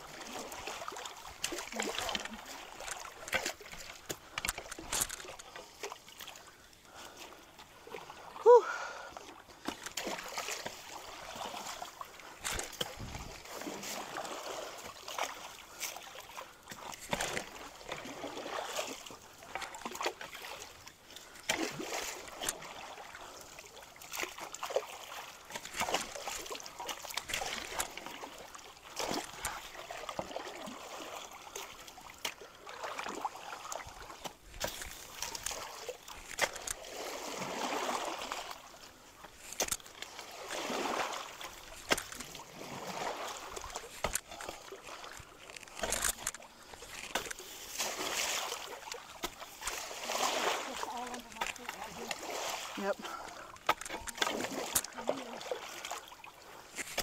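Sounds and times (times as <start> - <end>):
short sharp water splashes: 0.0 - 6.3, 9.6 - 38.8, 39.4 - 57.0
running creek water: 0.0 - 57.0.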